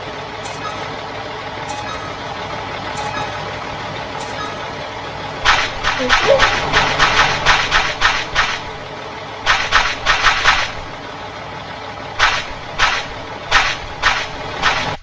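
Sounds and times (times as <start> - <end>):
cartoon vehicle engine hum: 0.0 - 15.0.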